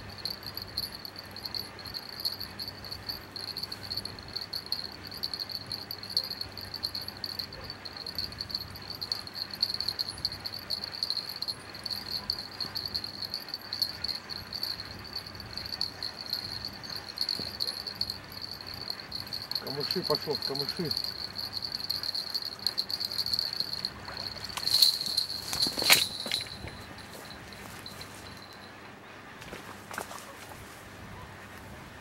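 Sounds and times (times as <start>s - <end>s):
higher insect trill: 0.0s - 28.9s
crickets chirping: 0.0s - 30.1s.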